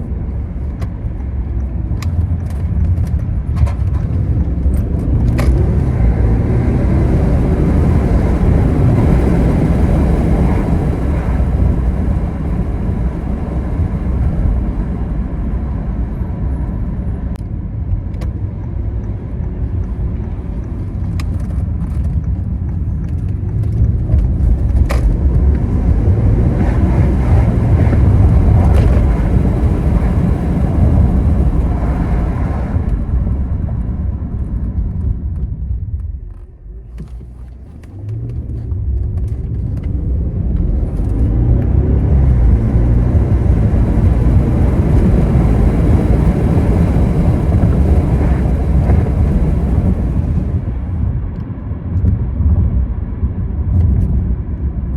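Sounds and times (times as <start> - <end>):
car engine rumble while driving: 0.0 - 54.9.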